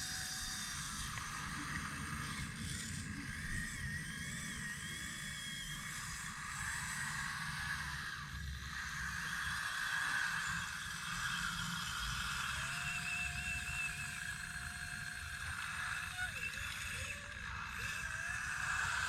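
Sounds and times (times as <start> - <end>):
motors humming: 0.0 - 19.0.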